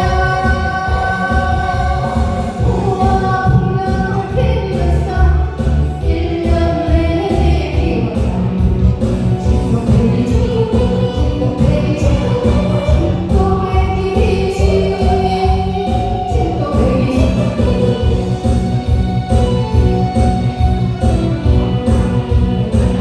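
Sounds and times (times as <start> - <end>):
backing track with beat and bass: 0.0 - 23.0
person singing: 0.0 - 23.0.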